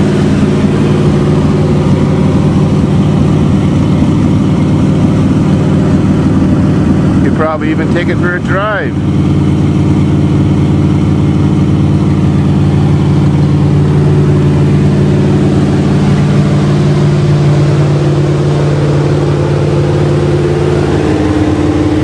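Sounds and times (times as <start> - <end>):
car engine fast idle: 0.0 - 22.0.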